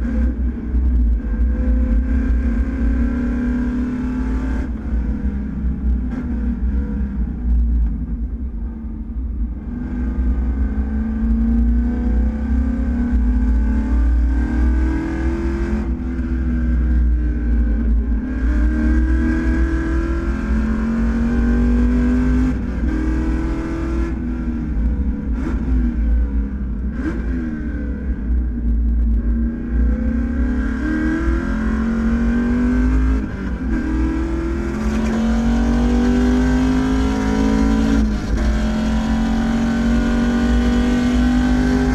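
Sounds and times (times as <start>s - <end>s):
race car engine at full throttle: 0.0s - 41.9s.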